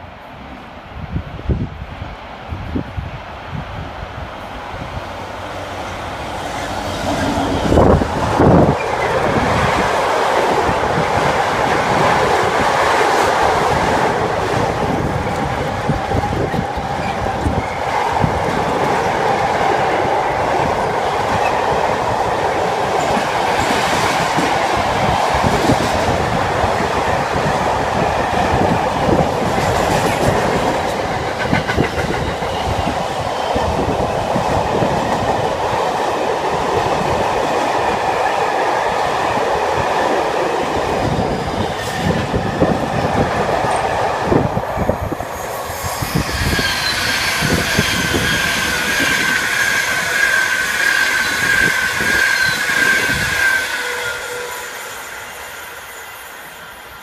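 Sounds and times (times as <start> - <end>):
diesel locomotive passing: 0.0 - 57.0.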